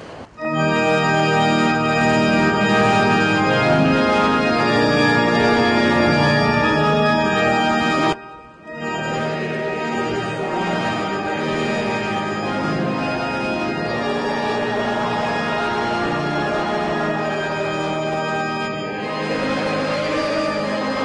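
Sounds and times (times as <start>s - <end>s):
pipe organ playing sustained chords: 0.3s - 21.0s.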